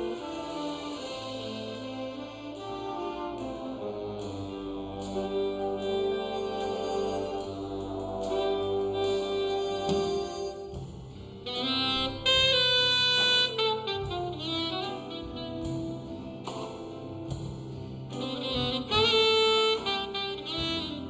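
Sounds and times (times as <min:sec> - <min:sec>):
big band jazz: 0:00.0 - 0:21.0
loud held ensemble chords: 0:00.0 - 0:21.0.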